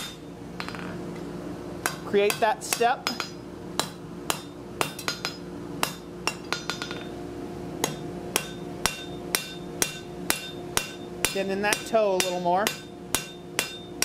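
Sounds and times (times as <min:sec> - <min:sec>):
hammer ringing on anvil: 0:01.9 - 0:07.1, 0:07.8 - 0:14.0.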